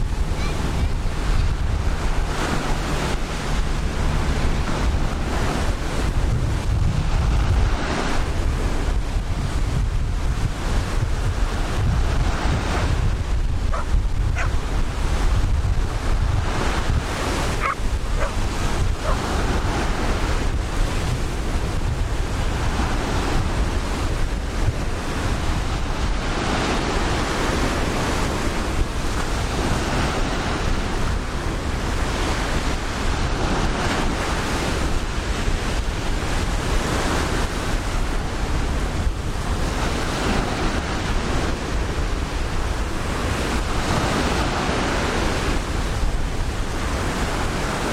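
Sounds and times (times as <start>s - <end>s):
ocean surf washing in and out: 0.0s - 47.9s
wind buffeting microphone: 0.0s - 47.9s.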